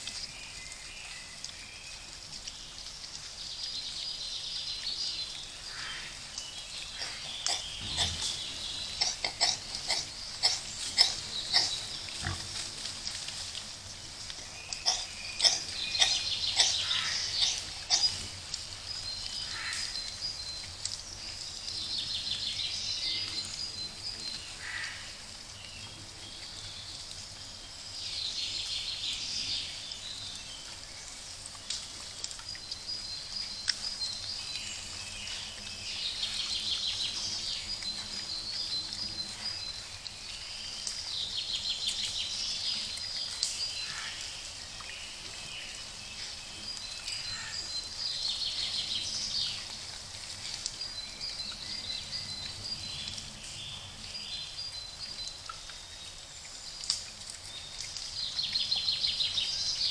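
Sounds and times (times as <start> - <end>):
songbirds singing: 0.0 - 59.9
steady background hiss: 0.0 - 59.9.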